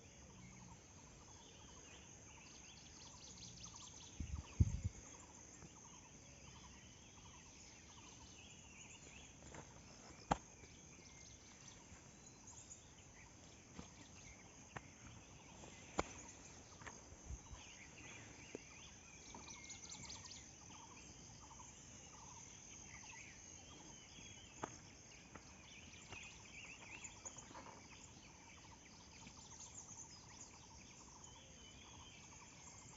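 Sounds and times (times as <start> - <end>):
high insect drone: 0.0 - 32.9.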